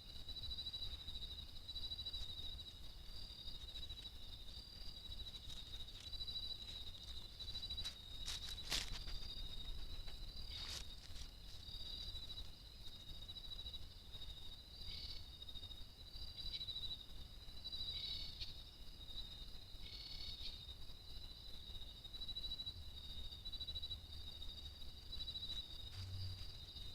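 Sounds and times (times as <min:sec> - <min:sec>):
insects trilling: 0:00.0 - 0:26.9.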